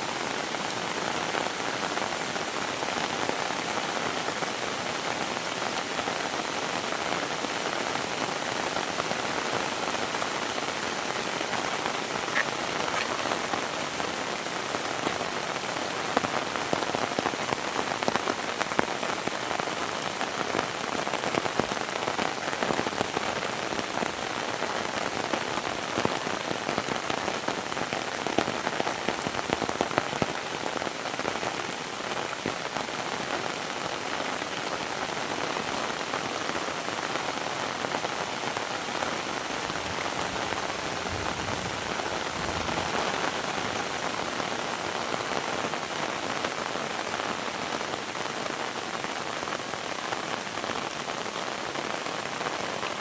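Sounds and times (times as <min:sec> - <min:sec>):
heavy rain hissing: 0:00.0 - 0:53.0
raindrops pattering: 0:00.0 - 0:53.0.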